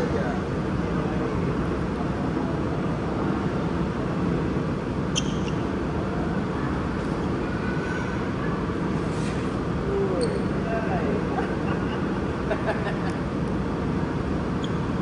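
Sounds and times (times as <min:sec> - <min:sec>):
shopping mall ambience: 0:00.0 - 0:15.0.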